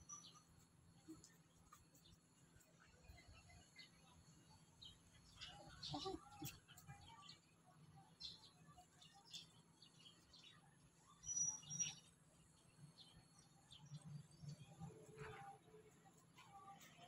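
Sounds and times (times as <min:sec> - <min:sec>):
faint bird chirps: 0:00.0 - 0:15.8.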